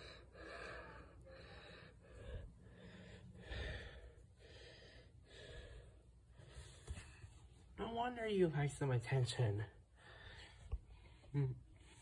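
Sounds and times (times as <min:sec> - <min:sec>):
soft breathing: 0:00.0 - 0:07.8, 0:09.8 - 0:12.0.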